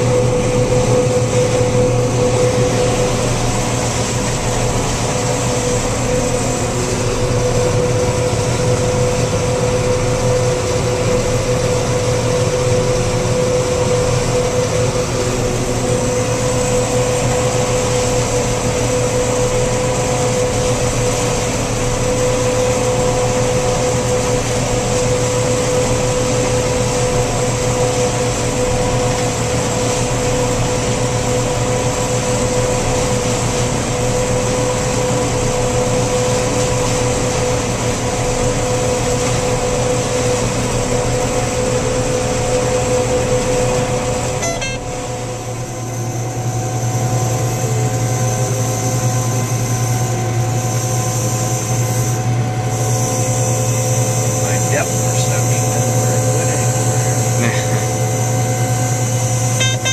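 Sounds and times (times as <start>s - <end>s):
machinery engine humming: 0.0s - 59.9s
steady whine: 0.0s - 59.9s.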